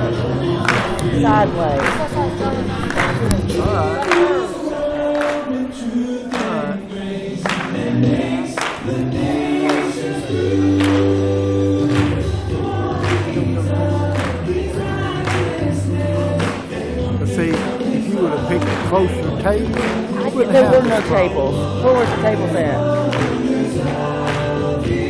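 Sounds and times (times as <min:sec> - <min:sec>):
choir singing gospel: 0:00.0 - 0:25.0
steady beat: 0:00.5 - 0:06.8, 0:07.4 - 0:25.0.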